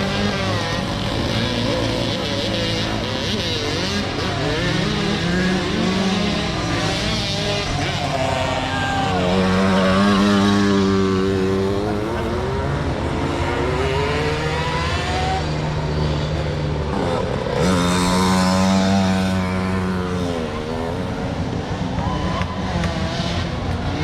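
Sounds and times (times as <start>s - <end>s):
motocross bike engines: 0.0s - 24.0s.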